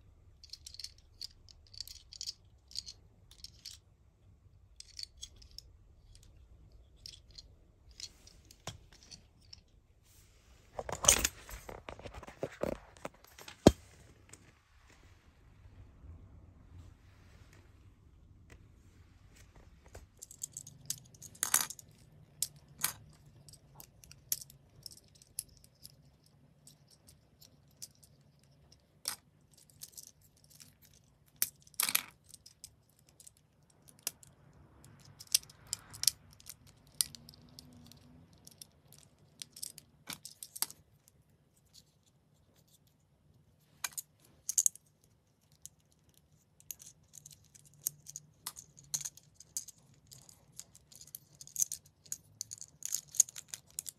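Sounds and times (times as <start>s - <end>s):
faint low hum: 0.0s - 53.9s.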